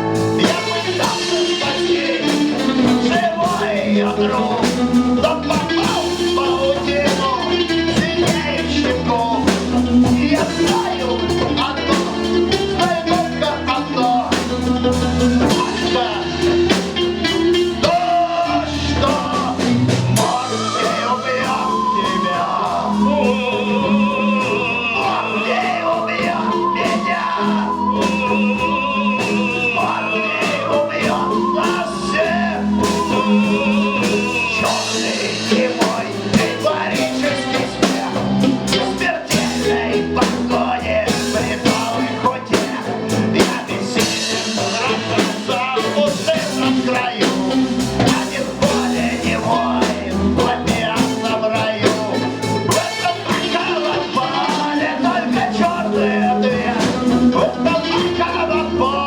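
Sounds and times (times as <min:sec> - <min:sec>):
live rock band: 0:00.0 - 0:59.0
man singing: 0:00.0 - 0:59.0.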